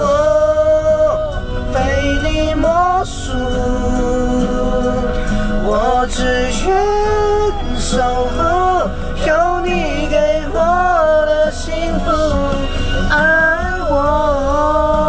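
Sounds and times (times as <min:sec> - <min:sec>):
backing music: 0:00.0 - 0:15.0
person singing with vibrato: 0:00.0 - 0:15.0.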